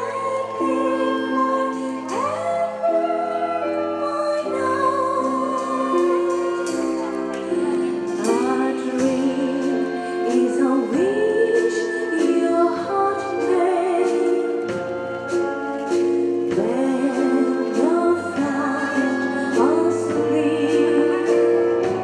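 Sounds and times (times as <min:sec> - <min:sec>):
woman singing with vibrato: 0:00.0 - 0:06.8, 0:07.9 - 0:15.7, 0:16.4 - 0:22.0
wind orchestra playing: 0:00.0 - 0:22.0.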